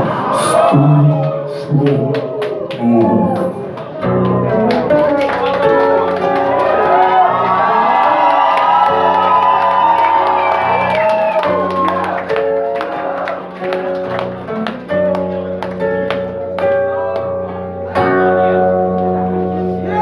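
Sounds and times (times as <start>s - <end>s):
crowd voices: 0.0s - 20.0s
live band with guitar: 0.0s - 20.0s.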